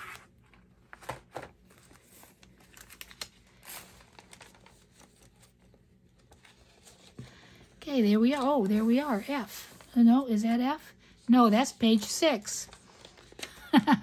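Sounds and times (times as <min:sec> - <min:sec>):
paper pages rustling: 0:00.0 - 0:10.0, 0:11.6 - 0:13.6.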